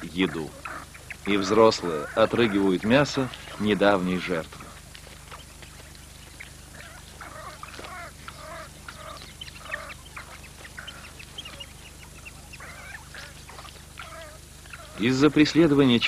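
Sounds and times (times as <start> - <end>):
wild dog pups squealing: 0.0 - 16.0.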